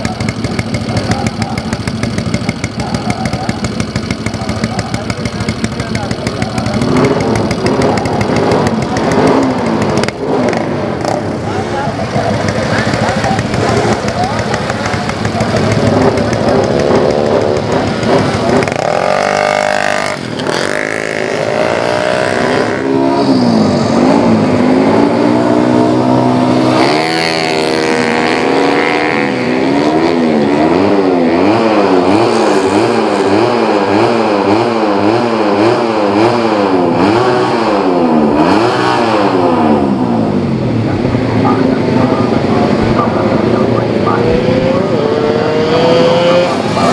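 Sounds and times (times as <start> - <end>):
scooter engine revving: 0.0 - 46.9.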